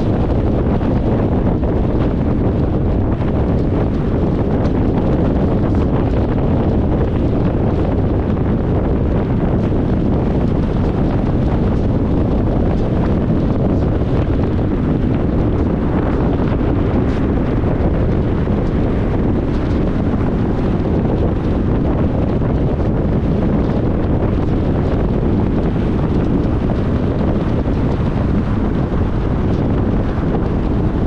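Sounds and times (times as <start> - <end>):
car road and wind noise: 0.0 - 31.0.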